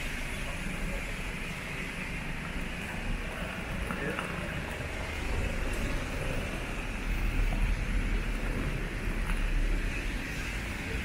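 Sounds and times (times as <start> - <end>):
low traffic rumble: 0.0 - 11.0
road vehicles passing: 0.0 - 11.0.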